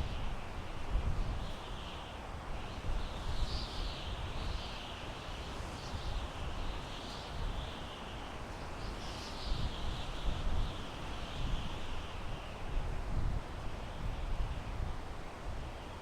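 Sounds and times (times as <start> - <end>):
wind through pine trees: 0.0 - 16.0.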